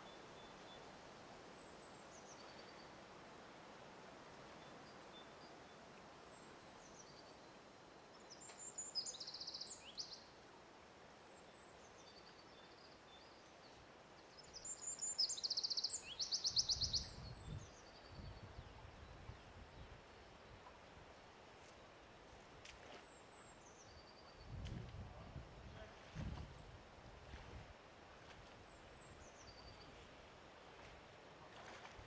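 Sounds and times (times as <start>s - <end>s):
faint outdoor hiss: 0.0s - 32.0s.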